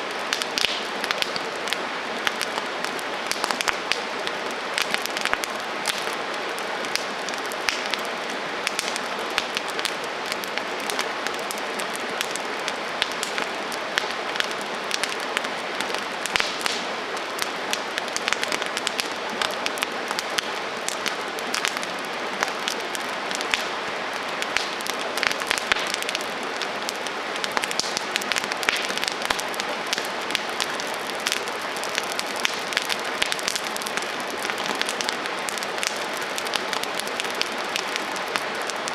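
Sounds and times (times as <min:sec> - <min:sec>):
campfire crackling: 0:00.0 - 0:38.9
fire popping and snapping: 0:00.0 - 0:38.9.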